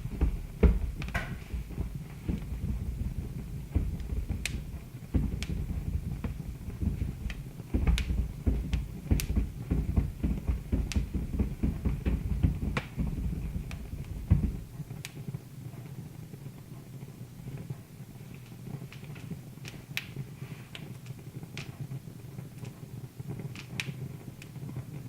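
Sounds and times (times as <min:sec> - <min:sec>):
fire popping: 0:00.0 - 0:25.0
wood fire crackling: 0:00.0 - 0:25.0.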